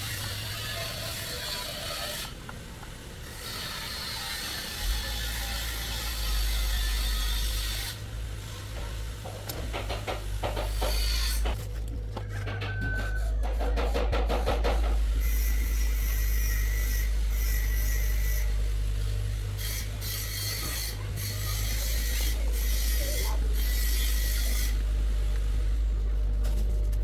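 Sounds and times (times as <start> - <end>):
tool rasping: 0.0 - 2.4, 3.2 - 27.0
low machine hum: 4.2 - 27.0.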